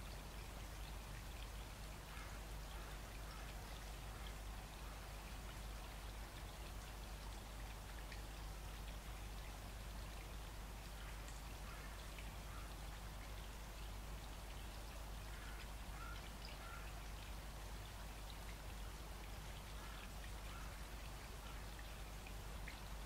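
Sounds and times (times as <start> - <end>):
stream running: 0.0 - 23.0.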